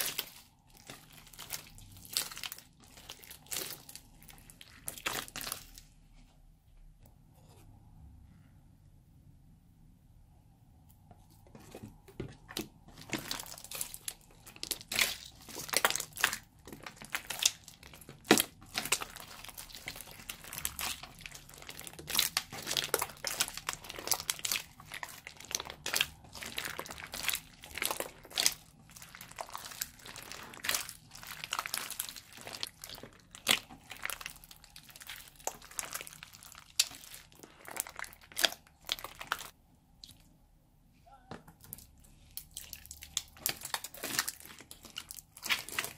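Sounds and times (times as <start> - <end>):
hands squelching sticky slime: 0.0 - 6.0, 11.2 - 40.4, 41.4 - 45.9.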